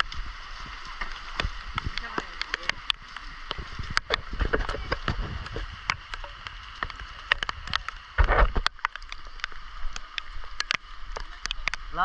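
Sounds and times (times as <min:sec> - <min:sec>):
heavy rain: 0:00.0 - 0:12.0
raindrops tapping near microphone: 0:00.0 - 0:12.0.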